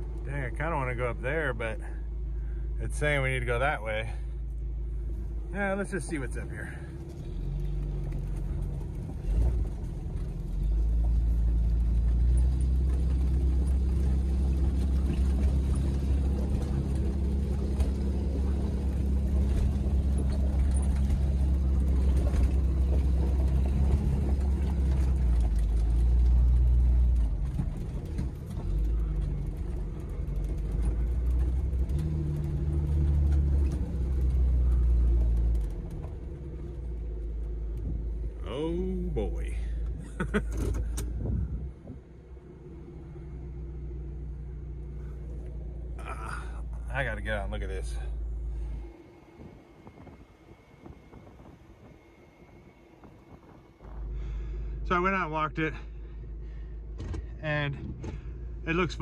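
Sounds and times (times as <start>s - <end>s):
car engine pulling uphill: 0.0s - 59.0s.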